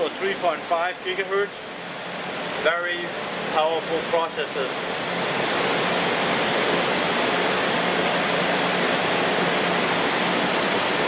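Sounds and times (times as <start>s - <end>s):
cooling fan airflow rushing: 0.0s - 11.0s.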